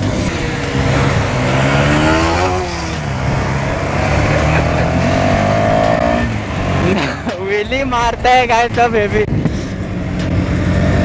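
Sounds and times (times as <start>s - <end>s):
motorcycle engines accelerating: 0.0s - 11.0s.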